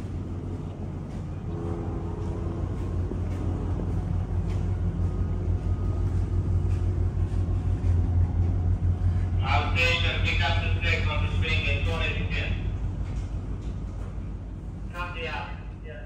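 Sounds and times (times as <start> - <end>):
ship machinery hum and rumble: 0.0 - 16.0.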